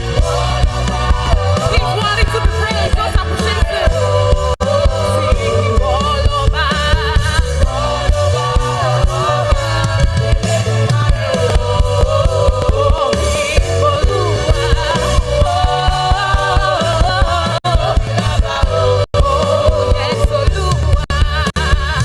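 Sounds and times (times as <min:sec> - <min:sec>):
gospel choir singing with band: 0:00.0 - 0:22.0.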